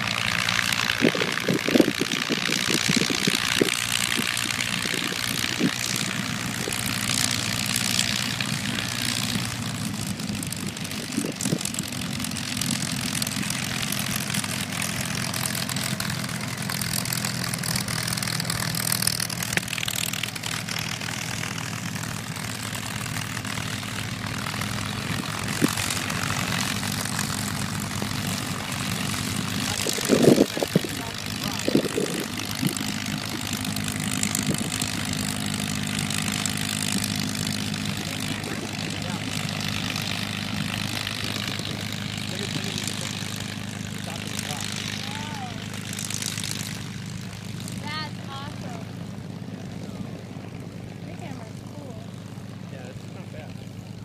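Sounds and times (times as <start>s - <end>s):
propeller plane engines running: 0.0s - 54.0s.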